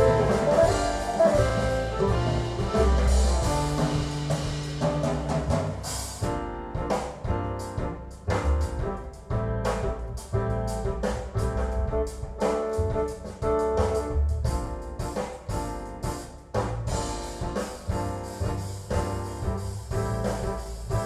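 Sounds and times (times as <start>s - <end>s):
instrumental music with steady beat: 0.0s - 21.0s.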